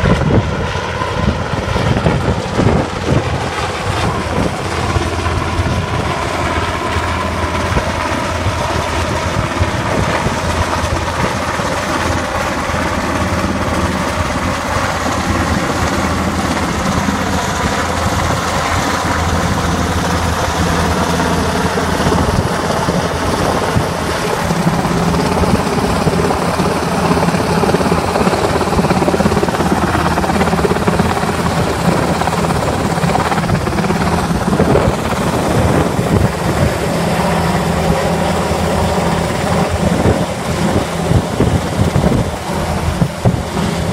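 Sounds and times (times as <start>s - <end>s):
helicopter flying overhead: 0.0s - 43.9s.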